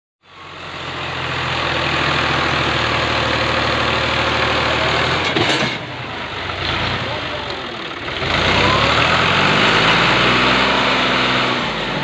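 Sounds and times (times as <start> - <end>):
tractor diesel engine under load: 0.2 - 12.0.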